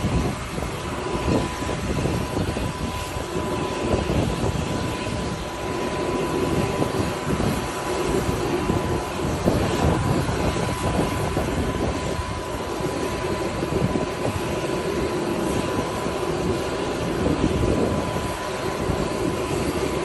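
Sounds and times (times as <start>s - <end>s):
jet aircraft roar and whine: 0.0s - 20.0s
wind on microphone: 0.0s - 20.0s.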